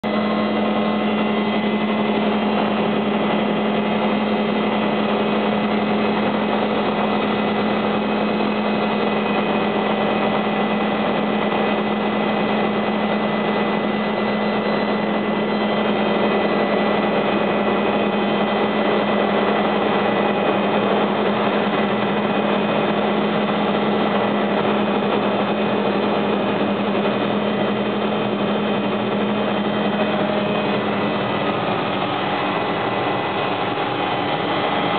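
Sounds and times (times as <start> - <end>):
helicopter engine and rotor running: 0.0 - 34.9.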